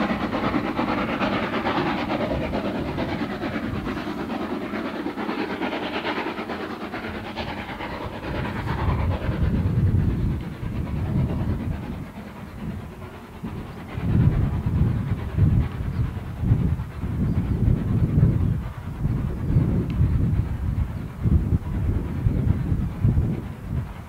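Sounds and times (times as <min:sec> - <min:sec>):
deep uneven rumble: 0:00.0 - 0:24.0
steam locomotive exhaust hiss: 0:00.0 - 0:24.0.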